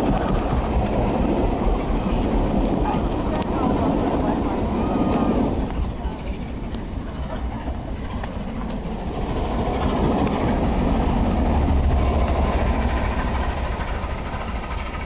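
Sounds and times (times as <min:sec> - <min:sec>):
passing train rail rumble: 0:00.0 - 0:15.0.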